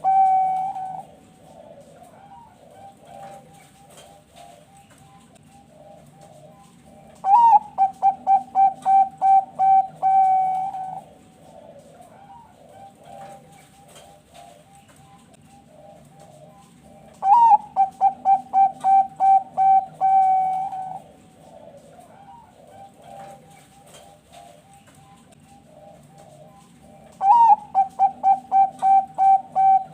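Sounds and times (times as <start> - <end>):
dove cooing song: 0.0 - 29.9.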